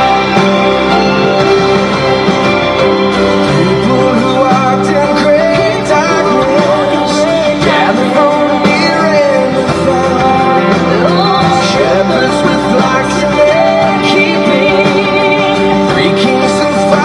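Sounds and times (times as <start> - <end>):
person singing with full band: 0.0 - 17.0.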